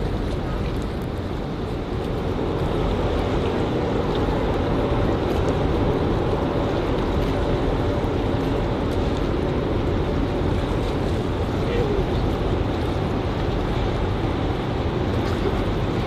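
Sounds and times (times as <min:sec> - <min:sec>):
boat engine rumble: 0:00.0 - 0:16.0
water noise: 0:00.0 - 0:16.0
wind: 0:00.0 - 0:16.0.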